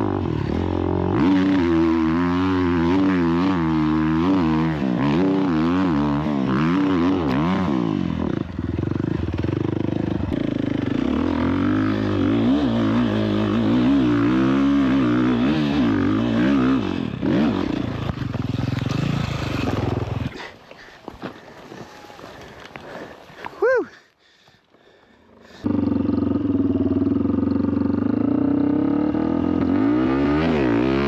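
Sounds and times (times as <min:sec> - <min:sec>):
dirt bike engine revving: 0:00.0 - 0:20.5, 0:25.4 - 0:31.0.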